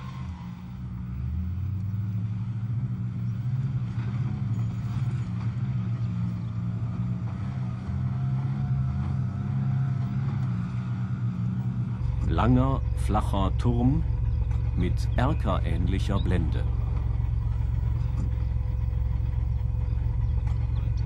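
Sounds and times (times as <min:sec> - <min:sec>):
armoured car engine humming: 0:00.0 - 0:21.0.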